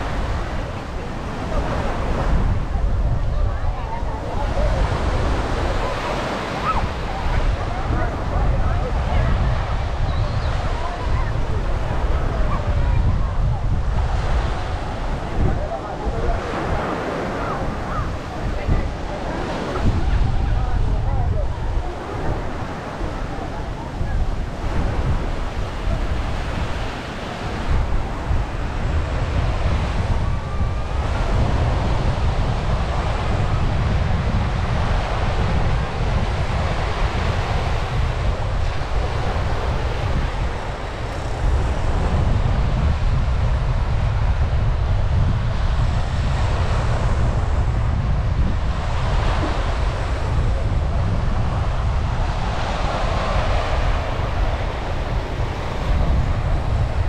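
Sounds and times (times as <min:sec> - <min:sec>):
surf washing onto sand: 0:00.0 - 0:57.0
wind buffeting microphone: 0:00.0 - 0:57.0.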